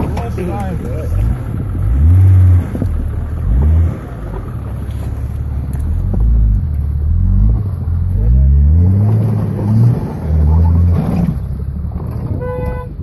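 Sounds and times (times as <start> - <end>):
engine idling and revving: 0.0 - 13.0.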